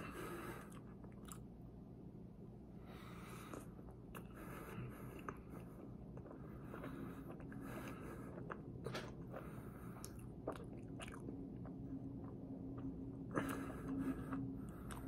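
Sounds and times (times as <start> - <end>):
faint chewing: 0.0 - 1.5, 3.2 - 15.0
steady low hum: 0.0 - 15.0.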